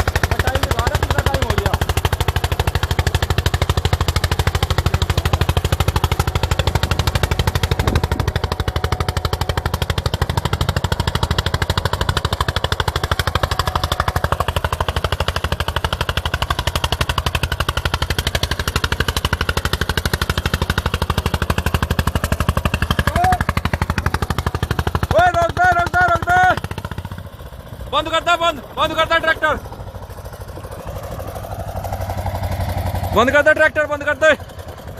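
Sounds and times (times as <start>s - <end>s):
tractor diesel engine knocking: 0.0s - 34.9s.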